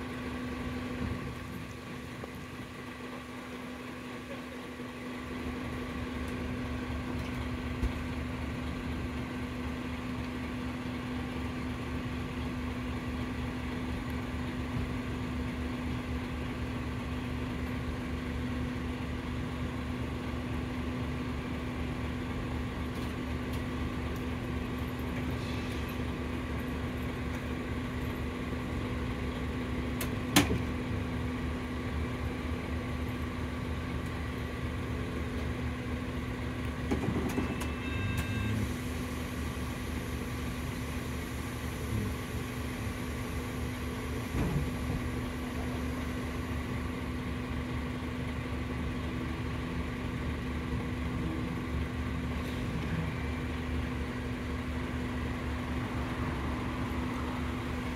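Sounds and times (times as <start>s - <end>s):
diesel bus engine idling: 0.0s - 57.9s.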